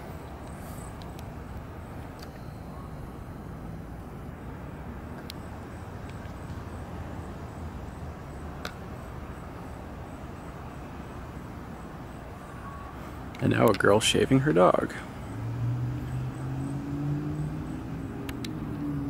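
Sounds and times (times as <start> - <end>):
low outdoor background rumble: 0.0 - 19.0.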